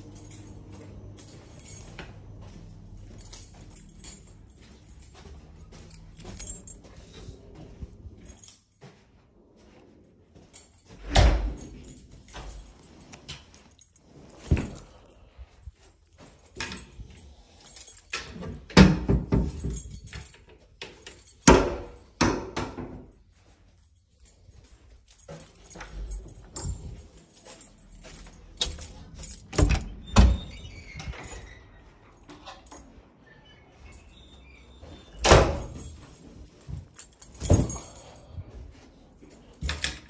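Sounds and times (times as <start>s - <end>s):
keys jangling: 0.0s - 9.0s, 9.6s - 22.2s, 23.1s - 40.0s
handling noise: 0.0s - 22.2s, 23.0s - 30.1s, 30.8s - 40.0s.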